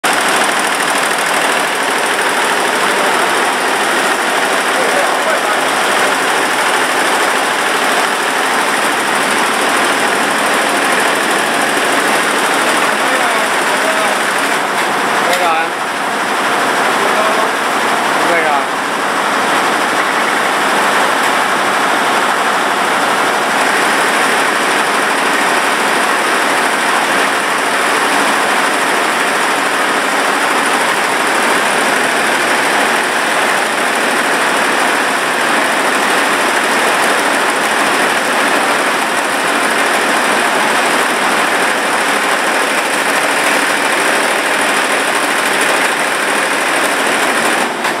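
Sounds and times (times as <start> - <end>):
machinery running with loud rushing: 0.0 - 48.0.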